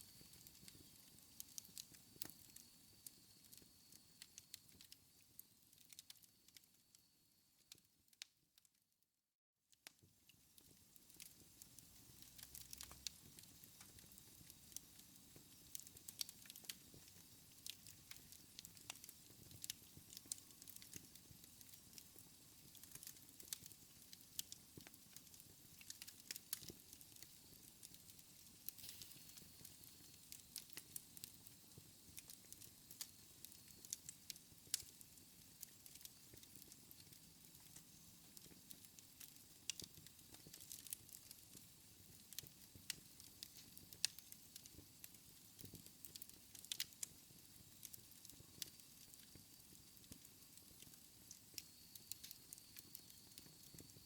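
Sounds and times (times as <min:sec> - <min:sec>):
wood fire crackling: 0:00.0 - 0:07.0, 0:10.6 - 0:54.0
low steady hiss: 0:00.0 - 0:08.2, 0:10.2 - 0:54.0.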